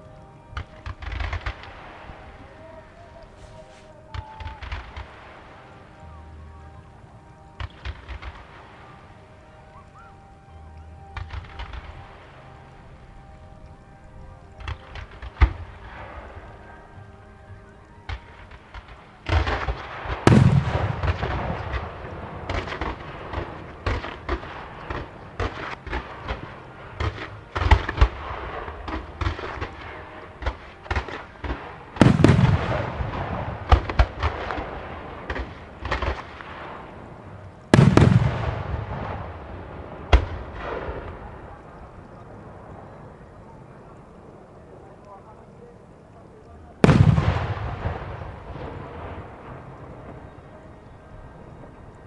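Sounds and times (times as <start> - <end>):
big fireworks booms: 0.0 - 52.0
fireworks bursting and crackling: 0.0 - 52.0.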